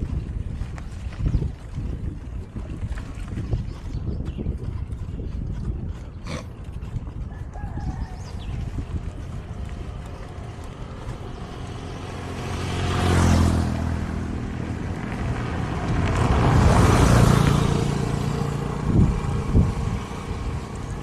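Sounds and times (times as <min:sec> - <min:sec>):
motor vehicles passing: 0:00.0 - 0:21.0.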